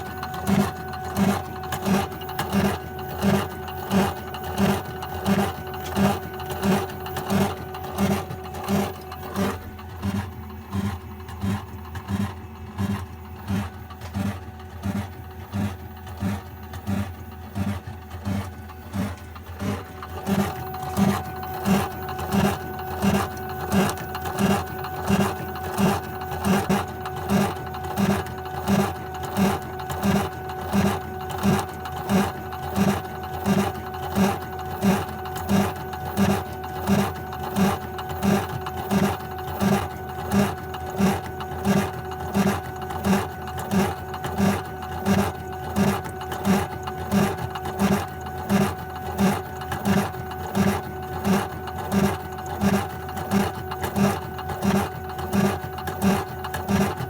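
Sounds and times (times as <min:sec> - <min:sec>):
motor whine: 0:00.0 - 0:57.0.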